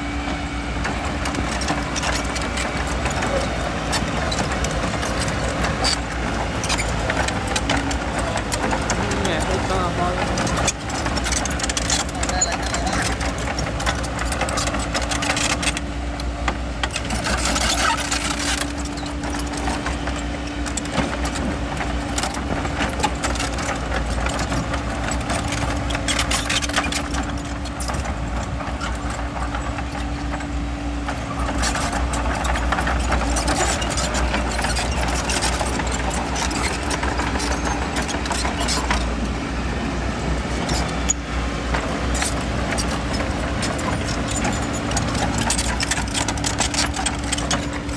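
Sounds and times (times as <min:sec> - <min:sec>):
bulldozer diesel engine running: 0:00.0 - 0:47.9
steady engine hum: 0:00.0 - 0:47.9
tracks scraping and clattering: 0:00.0 - 0:47.9.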